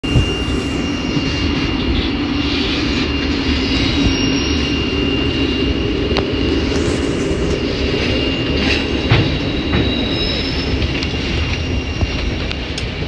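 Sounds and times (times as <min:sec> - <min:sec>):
train cars rumbling: 0:00.0 - 0:13.0.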